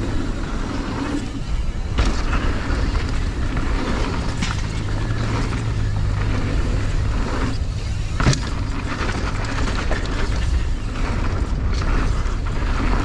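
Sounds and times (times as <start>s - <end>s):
bike tyres rolling over dirt: 0.0s - 13.0s.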